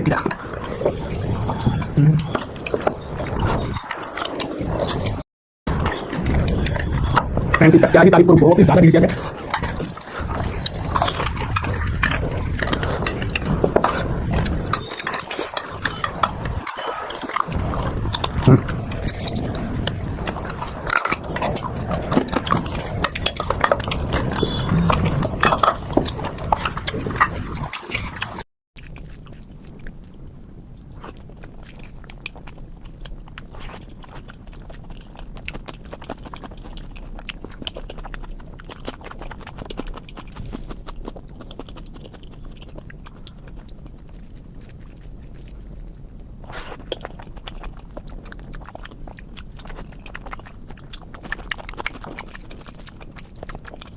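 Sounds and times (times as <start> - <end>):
wet chewing: 0.0 - 53.9.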